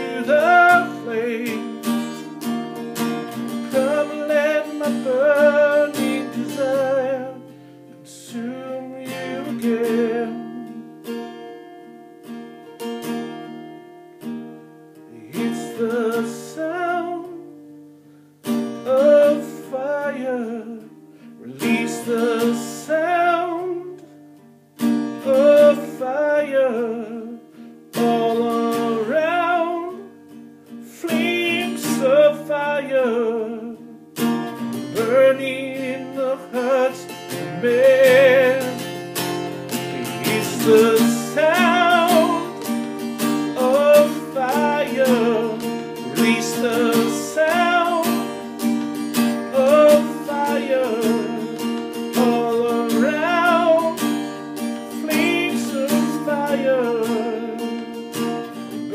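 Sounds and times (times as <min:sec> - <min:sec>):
person singing: 0:00.0 - 0:02.4, 0:03.0 - 0:10.8, 0:15.1 - 0:17.5, 0:18.8 - 0:24.1, 0:25.2 - 0:27.4, 0:28.0 - 0:30.1, 0:30.9 - 0:34.0, 0:34.8 - 0:58.9
acoustic guitar strumming: 0:00.0 - 0:58.9.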